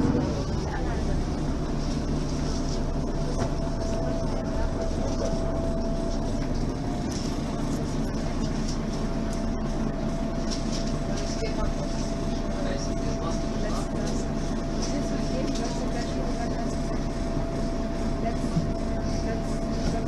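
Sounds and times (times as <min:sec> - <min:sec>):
bus engine running: 0:00.0 - 0:20.0.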